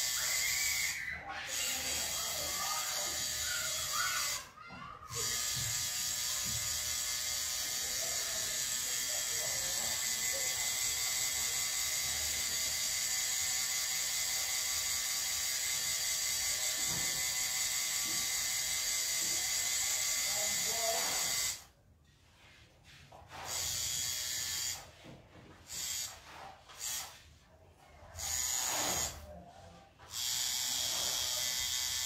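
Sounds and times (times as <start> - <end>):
tattoo machine whirring: 0.0 - 21.8, 23.3 - 27.2, 28.2 - 29.3, 30.0 - 32.0.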